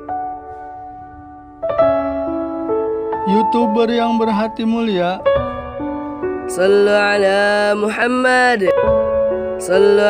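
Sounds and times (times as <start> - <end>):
soft keyboard music: 0.0 - 10.0.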